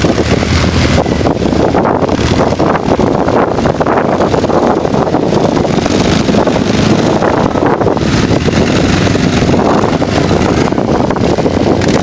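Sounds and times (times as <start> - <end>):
atv engine running: 0.0 - 12.0
wind buffeting microphone: 0.0 - 12.0.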